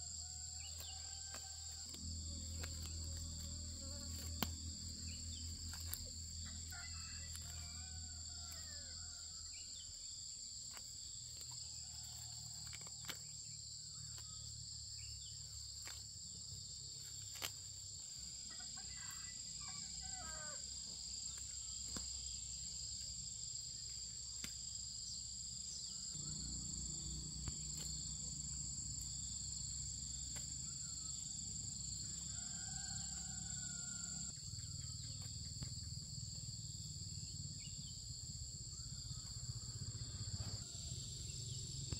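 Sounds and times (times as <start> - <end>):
insect chorus shrilling: 0.0 - 41.9.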